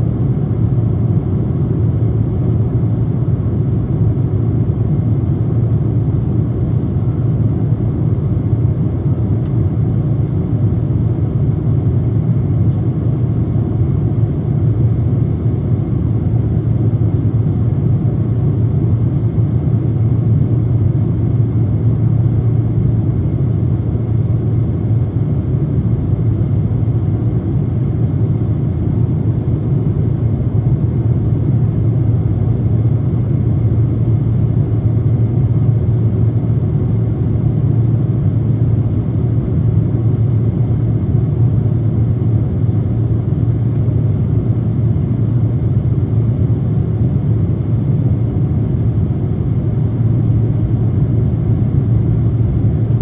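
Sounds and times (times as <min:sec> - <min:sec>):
aircraft engines droning in cabin: 0:00.0 - 0:53.0.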